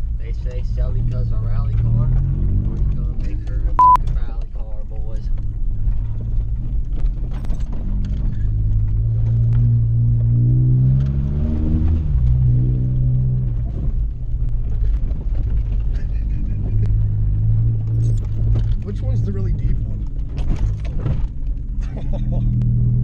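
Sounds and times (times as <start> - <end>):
car engine accelerating: 0.0 - 4.0, 5.1 - 23.0.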